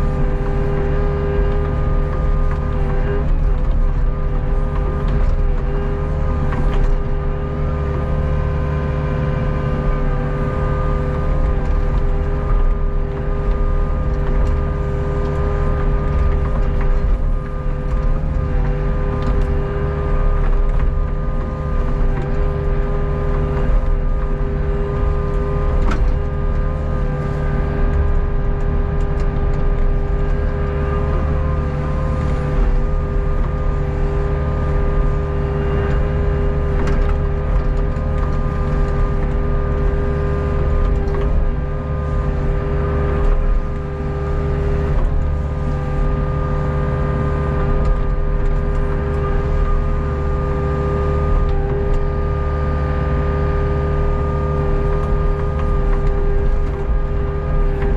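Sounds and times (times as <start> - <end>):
excavator diesel engine running: 0.0 - 57.9
hydraulic whine: 0.0 - 57.9.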